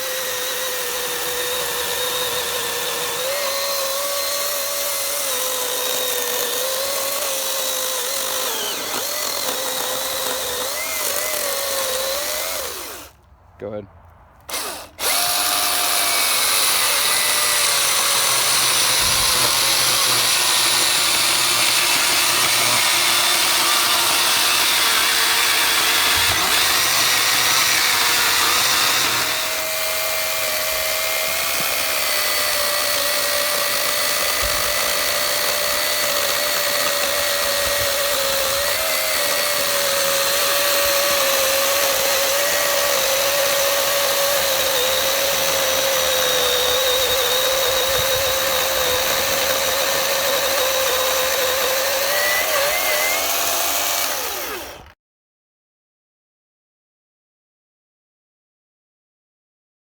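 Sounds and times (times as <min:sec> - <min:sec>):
electric chainsaw cutting wood: 0:00.0 - 0:13.2, 0:14.4 - 0:55.0.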